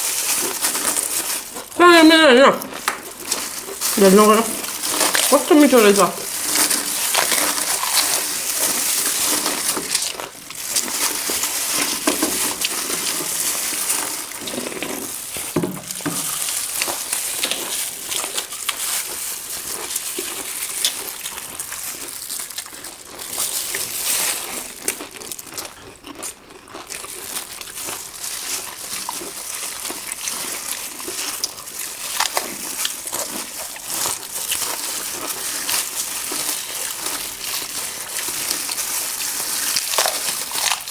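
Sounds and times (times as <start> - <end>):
crisp shells crunching: 0.0 - 40.9.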